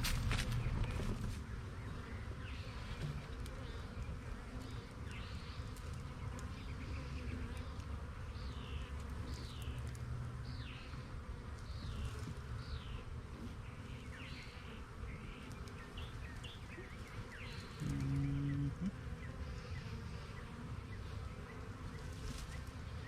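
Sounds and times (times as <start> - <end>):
bee colony buzzing: 0.0 - 23.0.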